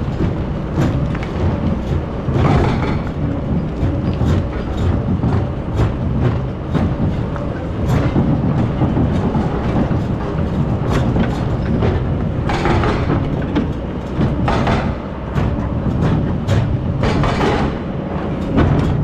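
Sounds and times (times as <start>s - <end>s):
excavator engine running: 0.0s - 19.0s
knocks and clanks: 0.0s - 19.0s.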